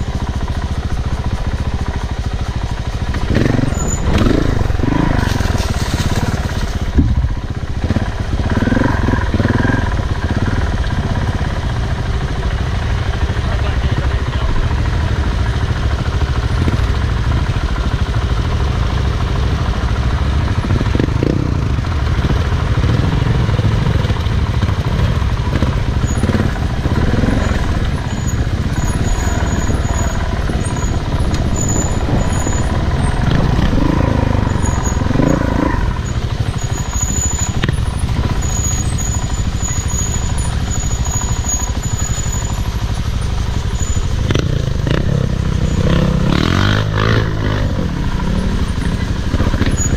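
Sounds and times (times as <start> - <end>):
off-road motorcycle revving: 0.0 - 49.9.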